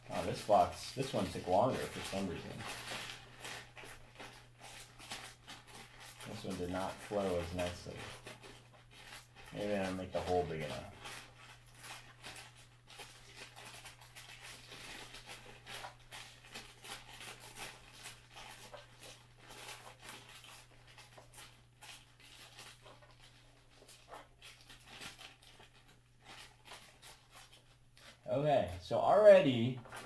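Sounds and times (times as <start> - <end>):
plastic bag crinkling: 0.0 - 30.0.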